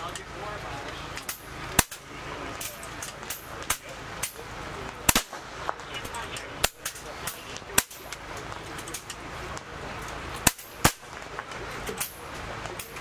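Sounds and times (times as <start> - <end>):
air rifle shots: 1.2 - 4.4, 5.0 - 9.7, 10.4 - 13.0.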